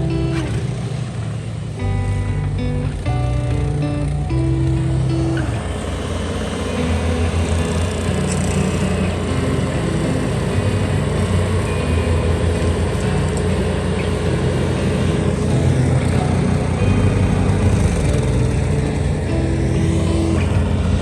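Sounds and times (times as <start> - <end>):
background music with bass line: 0.0 - 0.7, 1.8 - 21.0
vehicle engine running: 0.0 - 21.0.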